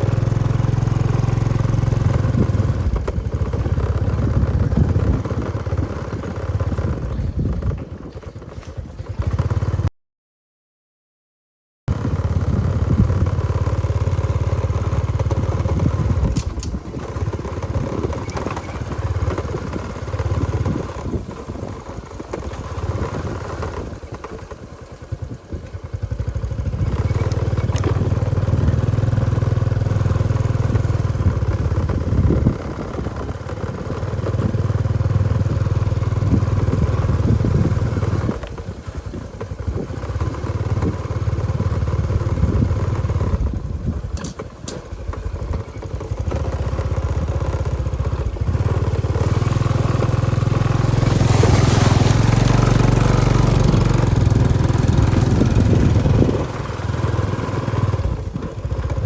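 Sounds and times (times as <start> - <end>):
motorbike engine revving: 0.0 - 7.8, 11.9 - 59.0.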